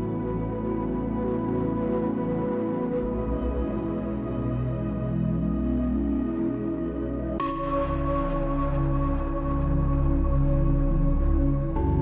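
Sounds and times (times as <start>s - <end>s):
ambient music sustained tones: 0.0s - 12.0s.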